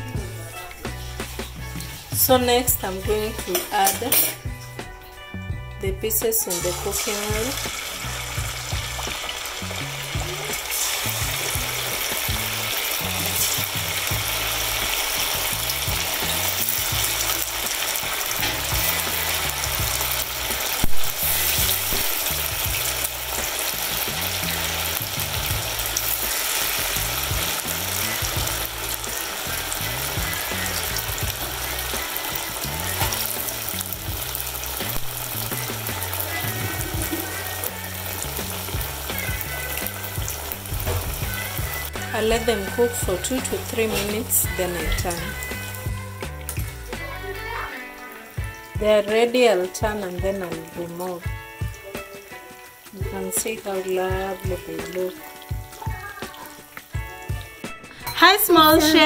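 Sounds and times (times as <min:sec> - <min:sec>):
potatoes sizzling in hot oil: 0:00.0 - 0:05.2, 0:06.0 - 0:59.0.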